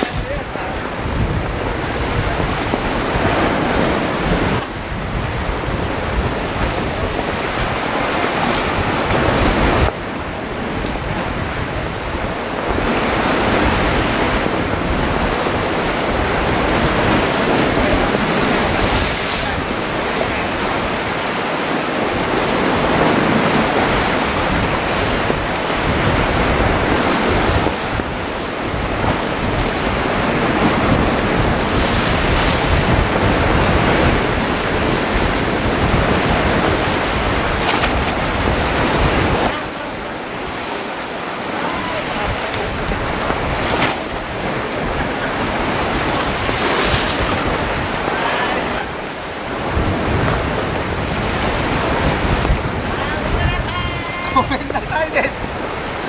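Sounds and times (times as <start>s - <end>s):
surf breaking on rocks: 0.0s - 56.0s
wind buffeting microphone: 0.0s - 56.0s.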